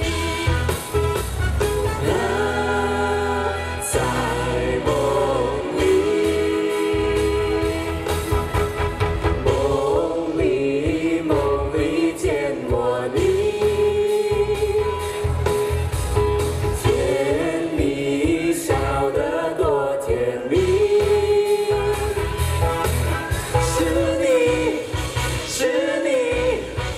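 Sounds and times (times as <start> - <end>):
amplified backing music with beat: 0.0 - 26.9
group singing pop songs: 0.0 - 26.9.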